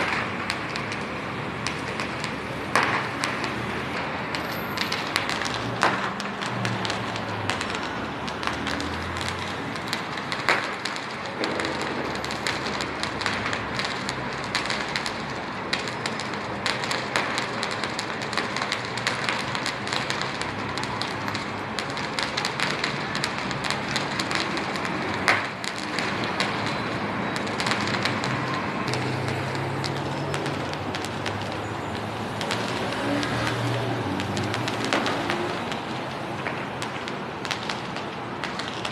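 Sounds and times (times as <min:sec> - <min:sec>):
fireworks crackling: 0:00.0 - 0:38.9
loud fireworks bangs: 0:00.0 - 0:38.9.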